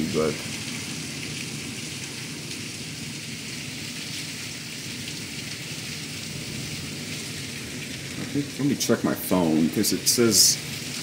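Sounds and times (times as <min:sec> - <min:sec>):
heavy rain on concrete: 0:00.0 - 0:11.0.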